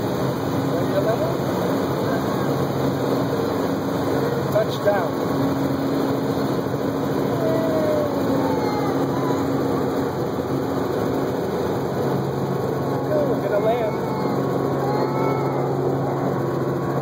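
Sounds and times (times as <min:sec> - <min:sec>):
helicopter cabin drone: 0:00.0 - 0:17.0.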